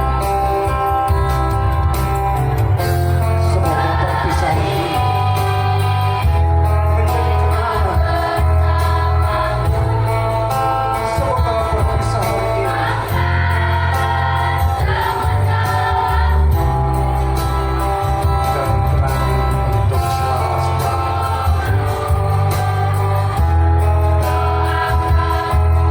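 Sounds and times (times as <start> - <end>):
amplified accompaniment with heavy bass: 0.0 - 25.9
choir singing in harmony: 3.4 - 18.4, 19.8 - 25.9.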